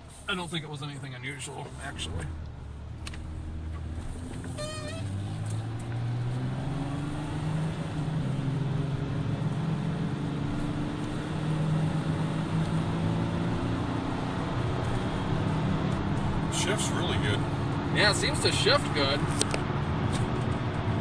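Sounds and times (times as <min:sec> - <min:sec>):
road noise inside car: 0:00.0 - 0:21.0
car engine accelerating: 0:01.6 - 0:21.0.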